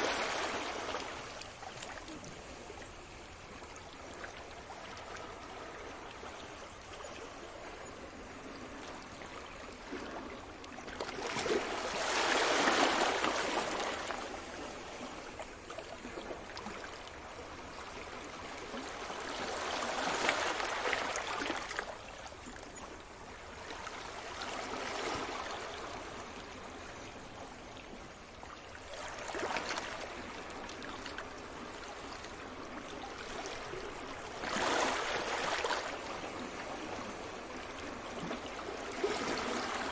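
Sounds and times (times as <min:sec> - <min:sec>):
sea waves breaking on a beach: 0:00.0 - 0:39.9.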